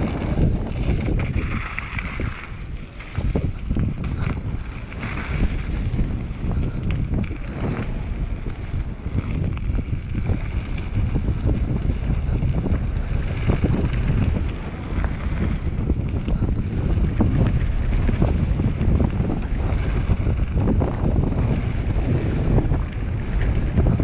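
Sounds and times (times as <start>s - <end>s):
bike rattling: 0.0s - 24.0s
tyres crunching over gravel: 0.0s - 24.0s
wind buffeting microphone: 0.0s - 24.0s.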